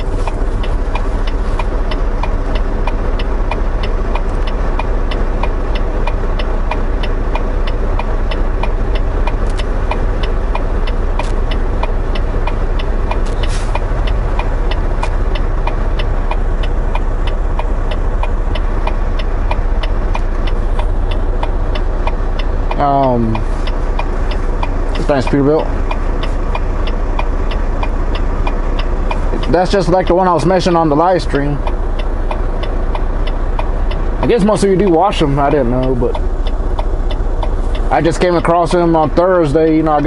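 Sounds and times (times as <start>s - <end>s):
diesel truck engine idling: 0.0s - 40.0s
turn signal clicking: 0.0s - 40.0s.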